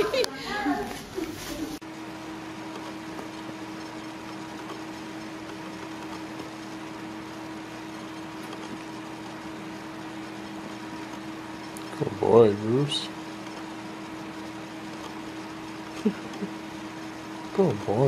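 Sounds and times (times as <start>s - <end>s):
steady hum with hiss: 0.0s - 18.0s.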